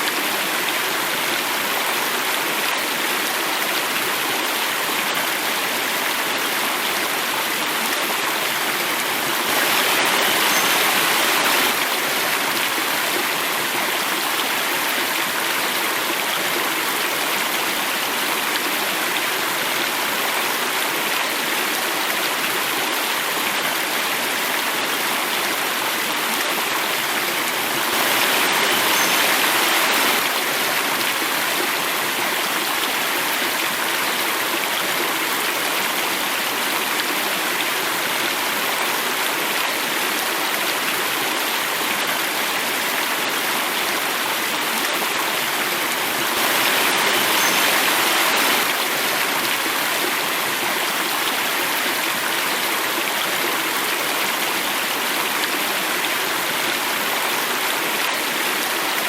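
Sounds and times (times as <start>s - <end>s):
stream water over a cascade: 0.0s - 59.0s.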